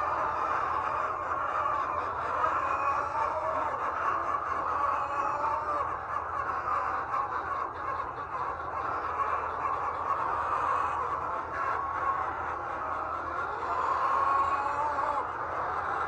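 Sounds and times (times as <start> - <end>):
many chickens calling: 0.0 - 16.0.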